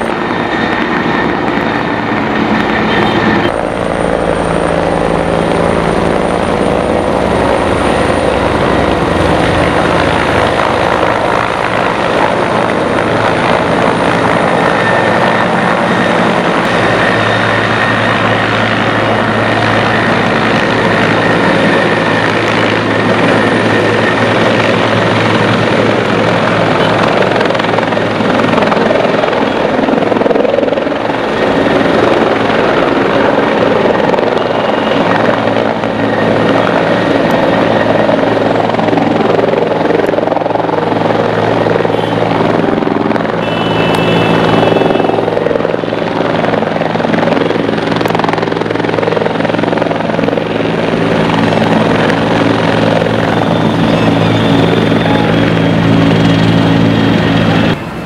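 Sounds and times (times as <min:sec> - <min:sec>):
helicopter rotor and engine: 0:00.0 - 0:58.0
steady whine: 0:00.0 - 0:58.0.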